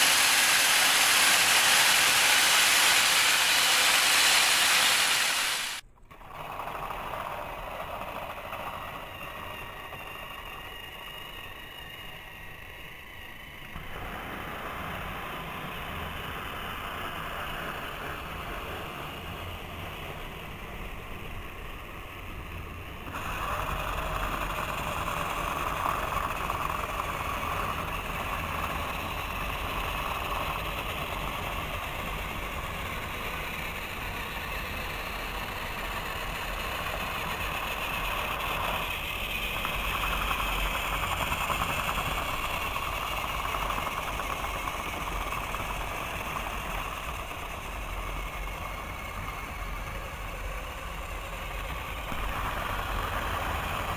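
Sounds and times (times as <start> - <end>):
toy train motors whirring: 0.0 - 53.9.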